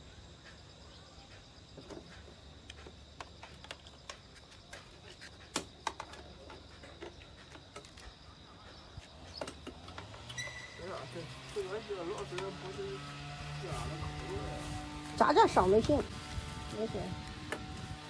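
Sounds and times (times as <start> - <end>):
faint insect trill: 0.0 - 18.0.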